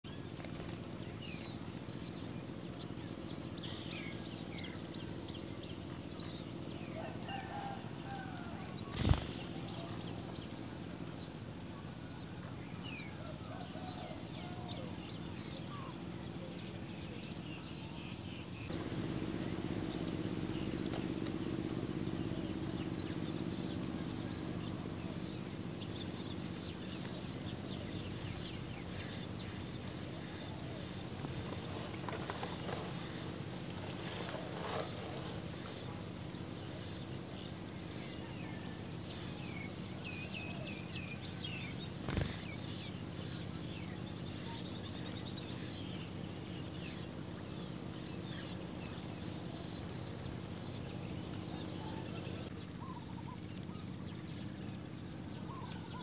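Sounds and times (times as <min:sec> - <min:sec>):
small birds chirping: 0:00.0 - 0:56.0
steady low hum: 0:08.1 - 0:56.0.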